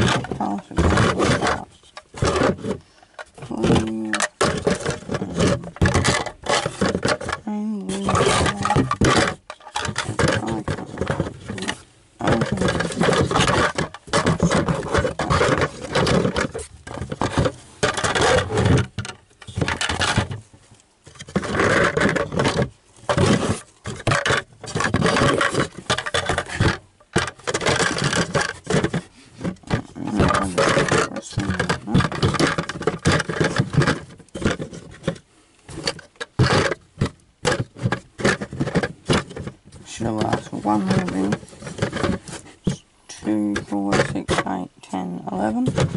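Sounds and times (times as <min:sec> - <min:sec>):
plastic scraping on cardboard: 0:00.0 - 0:45.9.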